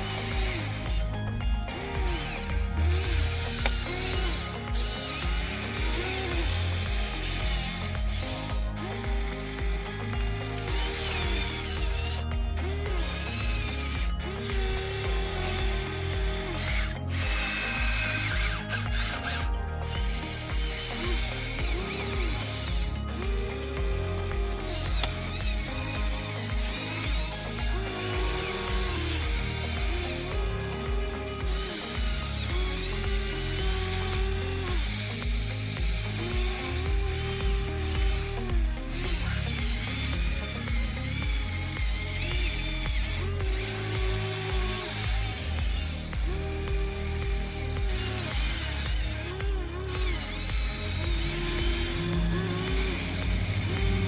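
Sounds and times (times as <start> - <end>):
background music: 0.0 - 54.0
geared electric motors whining: 0.0 - 54.0.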